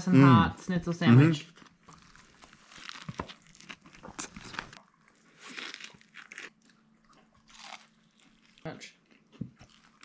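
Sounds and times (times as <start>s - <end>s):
crunchy chewing: 1.5s - 10.0s.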